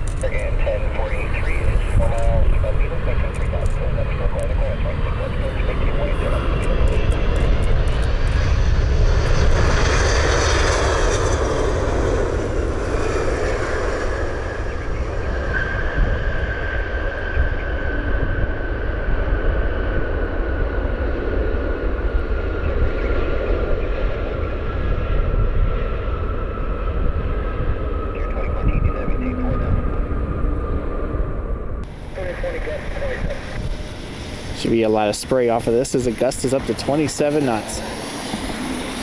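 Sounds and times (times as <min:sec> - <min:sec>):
jet engine whine: 0:00.0 - 0:39.0
jet engines rumbling: 0:00.0 - 0:39.0.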